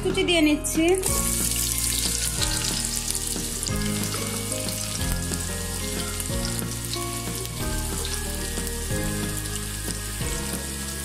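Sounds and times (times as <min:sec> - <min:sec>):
onions sizzling in a pot: 0:01.0 - 0:11.0.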